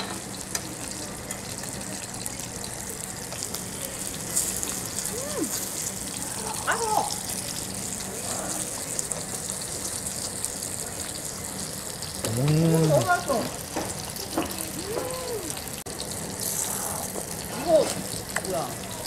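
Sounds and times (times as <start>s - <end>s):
meat sizzling on grill pan: 0.0s - 19.0s.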